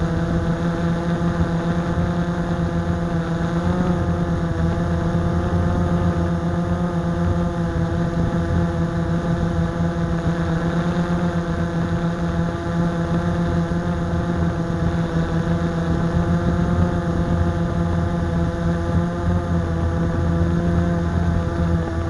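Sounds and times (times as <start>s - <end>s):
quadcopter motors buzzing: 0.0s - 22.0s.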